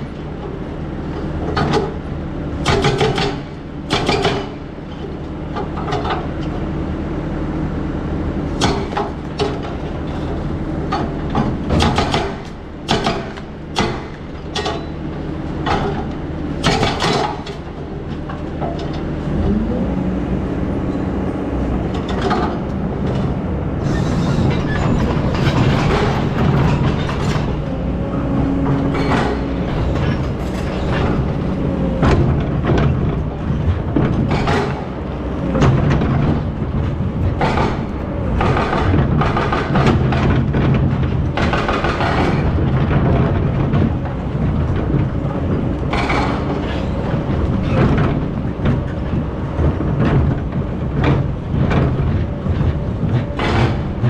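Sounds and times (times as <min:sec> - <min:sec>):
excavator diesel engine running: 0:00.0 - 0:54.0
sharp knocks and clanks: 0:02.6 - 0:06.3, 0:08.6 - 0:10.3, 0:10.9 - 0:15.0, 0:15.6 - 0:19.6, 0:21.9 - 0:27.8, 0:28.6 - 0:54.0.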